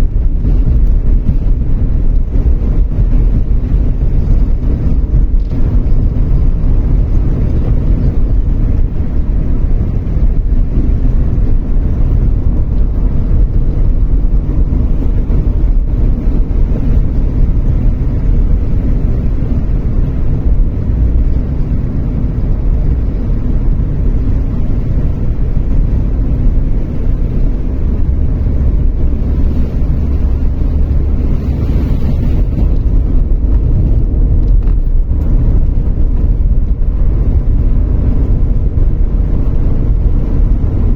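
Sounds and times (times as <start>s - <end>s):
tyres and road noise: 0.0s - 40.9s.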